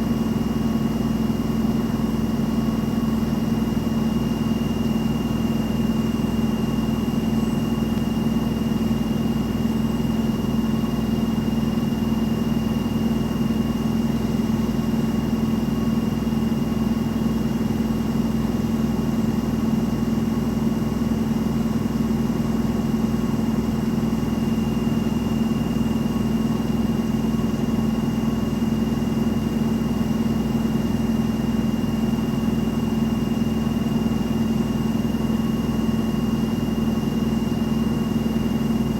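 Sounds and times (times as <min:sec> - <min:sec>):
washing machine spin cycle: 0:00.0 - 0:38.9.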